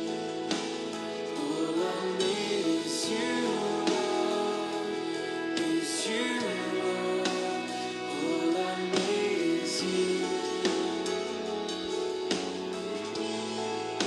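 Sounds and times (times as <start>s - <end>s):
person singing: 0.0s - 14.0s
sustained instrumental chords: 0.0s - 14.0s.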